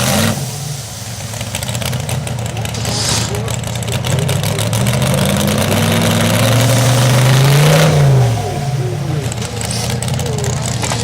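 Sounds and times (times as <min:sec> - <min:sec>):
tractor engine revving: 0:00.0 - 0:11.0.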